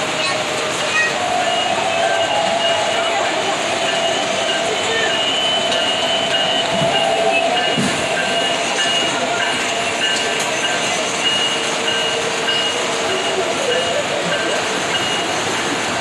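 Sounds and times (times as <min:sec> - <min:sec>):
model trains whirring and rattling: 0:00.0 - 0:16.0.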